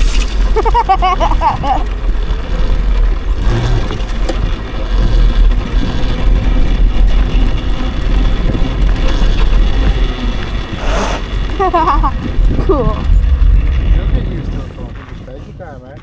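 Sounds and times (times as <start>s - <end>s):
bike rattling: 0.0s - 16.0s
wind buffeting microphone: 0.0s - 16.0s.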